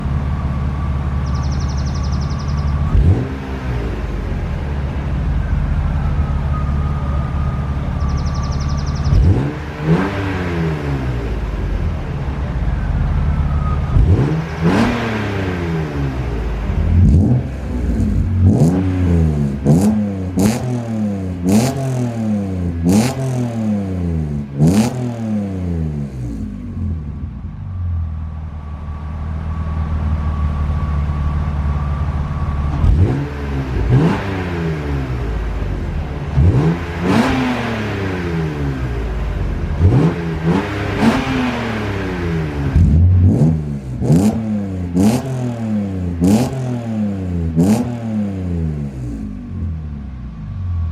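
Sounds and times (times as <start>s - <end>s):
car engine idling: 0.0s - 50.9s
car engine revving: 0.0s - 50.9s.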